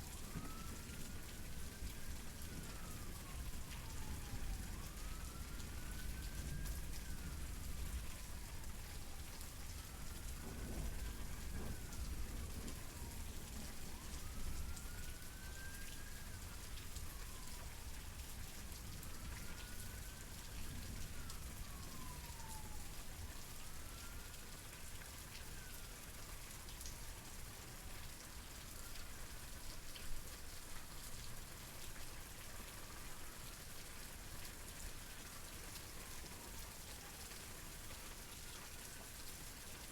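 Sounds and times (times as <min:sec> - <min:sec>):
distant siren wailing: 0:00.0 - 0:39.7
steady rain falling: 0:00.0 - 0:39.9.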